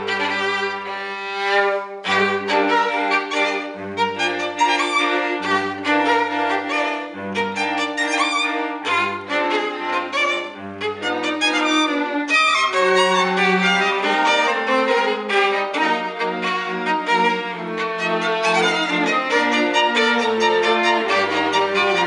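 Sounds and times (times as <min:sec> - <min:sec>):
low bowed notes: 0:00.0 - 0:22.0
violin ensemble playing: 0:00.0 - 0:22.0.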